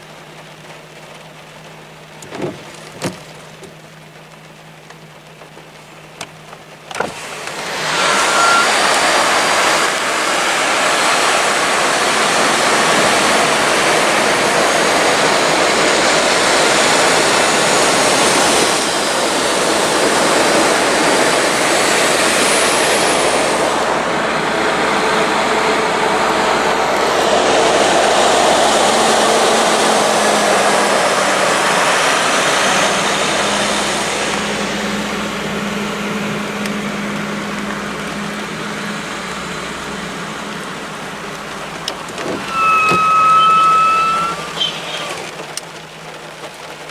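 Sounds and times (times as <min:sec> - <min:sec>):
heavy rain: 0:00.0 - 0:46.9
tyres spraying on wet road: 0:00.0 - 0:46.9
vehicle engine hum: 0:00.0 - 0:46.9.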